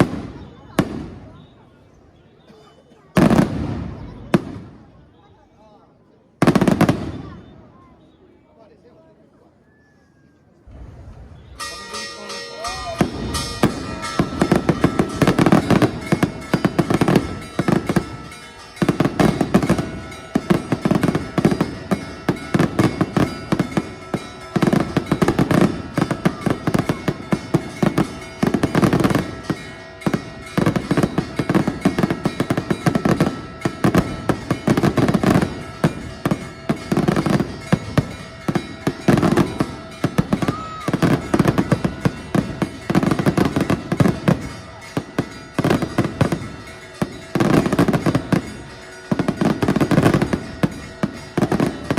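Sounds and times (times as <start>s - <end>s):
fireworks bangs and crackling: 0.0s - 1.8s, 3.0s - 5.4s, 6.4s - 7.9s, 10.7s - 51.9s.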